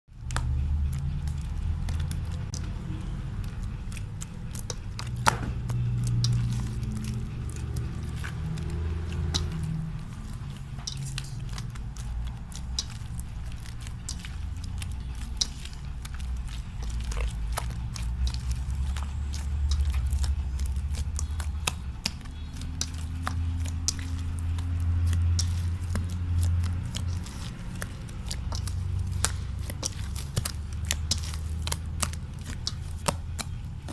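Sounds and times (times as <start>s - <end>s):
slime clicking and crackling: 0.1s - 33.9s.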